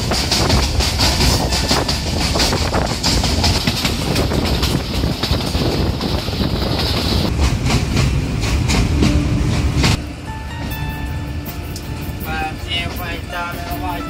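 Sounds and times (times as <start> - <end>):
train rumble: 0.0 - 14.0
wheels clattering over rail joints: 0.0 - 14.0.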